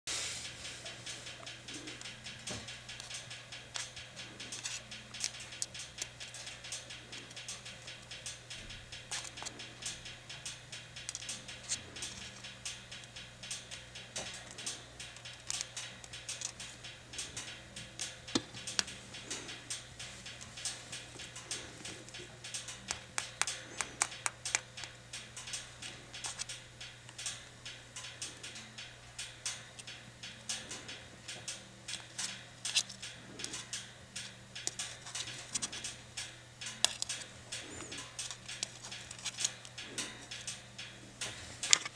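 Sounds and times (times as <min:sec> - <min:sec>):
steady low hum: 0:00.1 - 0:41.9.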